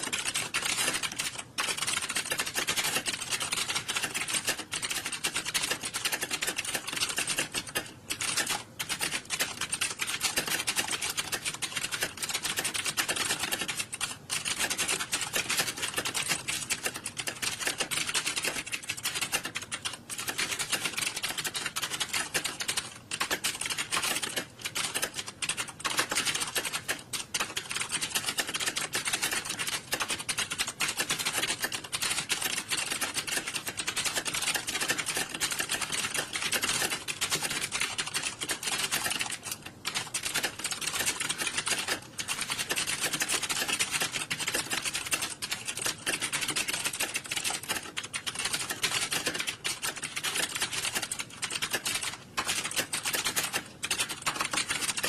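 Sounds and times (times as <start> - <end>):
keyboards typing: 0.0 - 55.0.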